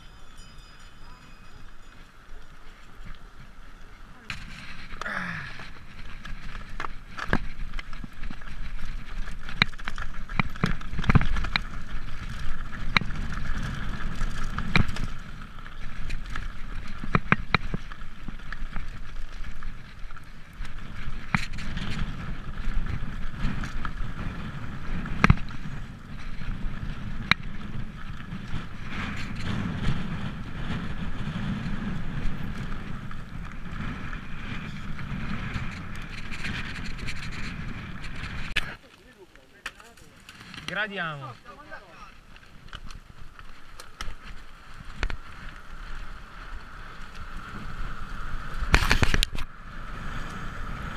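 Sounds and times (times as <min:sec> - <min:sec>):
bike tyres rolling over stones: 0:00.0 - 0:50.9
bike knocking and rattling on rocks: 0:01.5 - 0:49.5.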